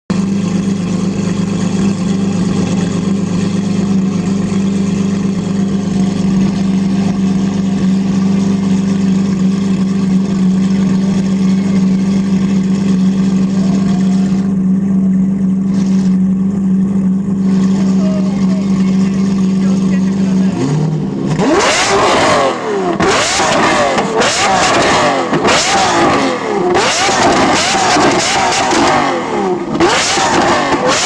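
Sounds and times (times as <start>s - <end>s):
car engine idling: 0.1s - 31.0s.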